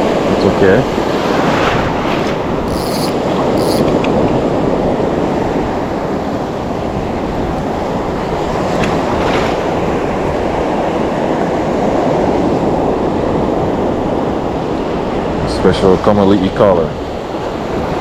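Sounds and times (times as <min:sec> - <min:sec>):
wind on microphone: 0:00.0 - 0:16.1
surf washing: 0:00.0 - 0:18.0.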